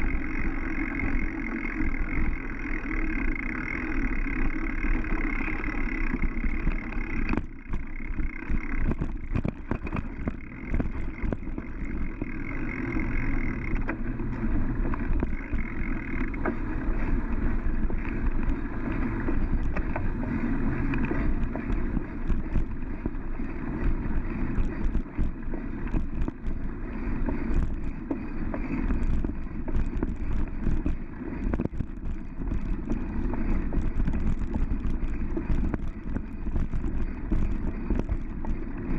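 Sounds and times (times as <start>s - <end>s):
bike rattles and knocks: 0.0s - 38.9s
bike tyres rumbling on dirt: 0.0s - 38.9s.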